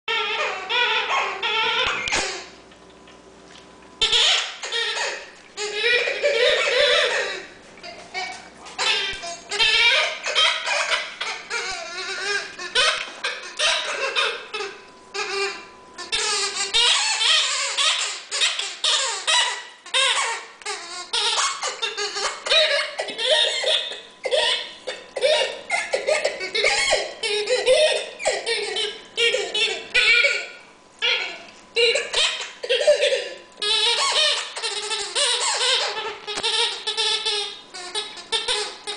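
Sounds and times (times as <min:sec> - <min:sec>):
squeaky toy squeaking: 0:00.1 - 0:02.5, 0:04.0 - 0:38.9.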